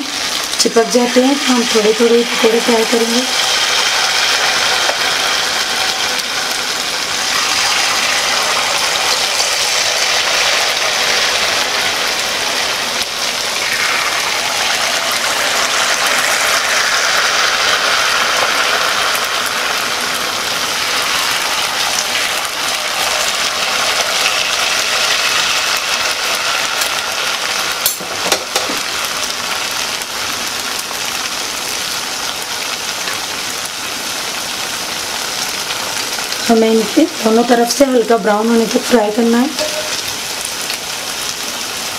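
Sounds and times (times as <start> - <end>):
batter sizzling in hot oil: 0.0 - 41.9.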